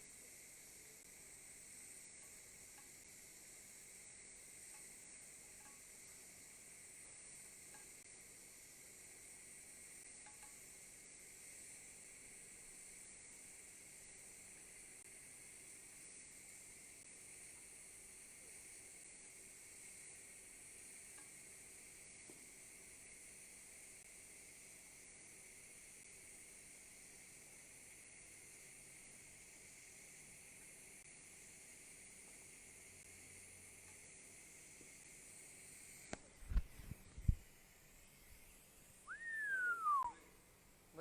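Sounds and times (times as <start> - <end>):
welding arc hiss: 0.0 - 41.0.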